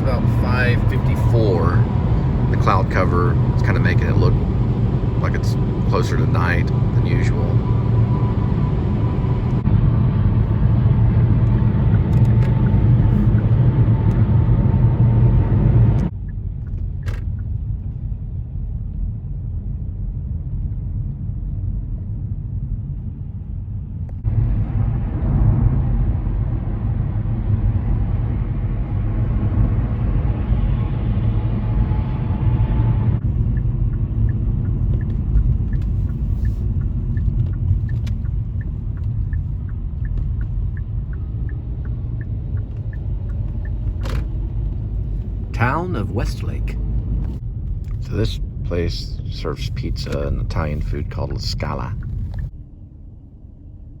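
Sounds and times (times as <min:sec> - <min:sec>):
road and engine rumble in car: 0:00.0 - 0:54.0.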